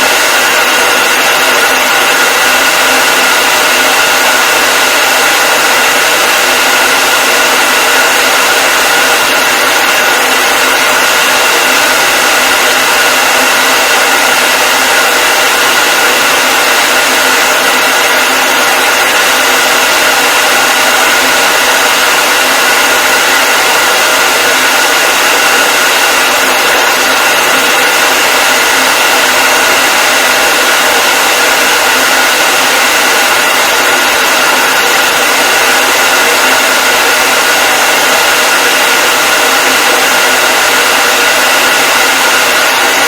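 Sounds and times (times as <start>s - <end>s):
hair dryer running: 0.0s - 43.0s.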